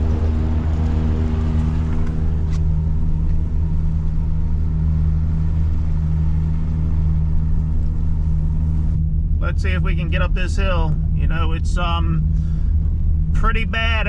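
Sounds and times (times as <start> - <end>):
truck engine drone: 0.0 - 14.0.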